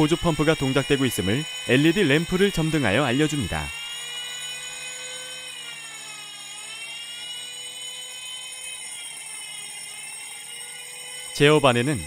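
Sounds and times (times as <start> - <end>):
fire alarm bell: 0.0 - 12.0
fire alarm siren wailing: 0.0 - 12.0.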